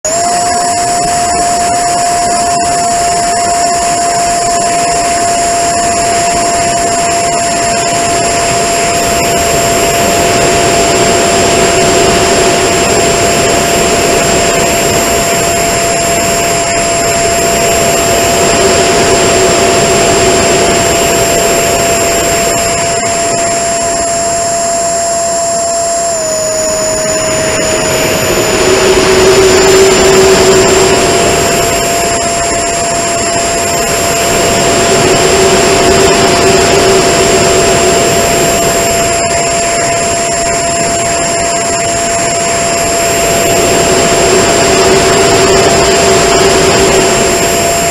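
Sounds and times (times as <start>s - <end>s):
electric ducted fan whining: 0.0s - 47.9s
wind rushing over microphone: 0.1s - 47.9s.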